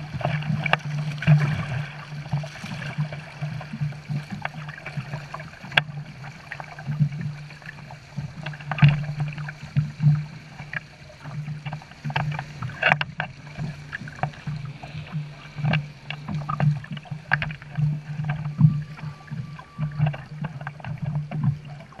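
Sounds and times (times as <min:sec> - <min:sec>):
boat engine drone: 0:00.0 - 0:22.0
water splashing and slapping: 0:00.0 - 0:22.0.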